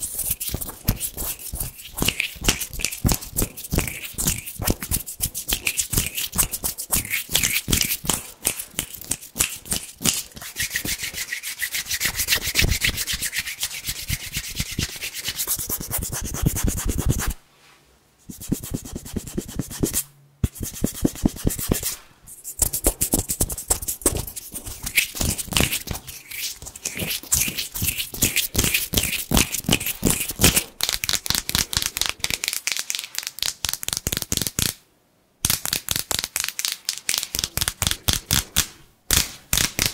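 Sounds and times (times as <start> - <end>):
hands rubbing together: 0.0 - 17.4, 18.3 - 34.8, 35.5 - 39.9.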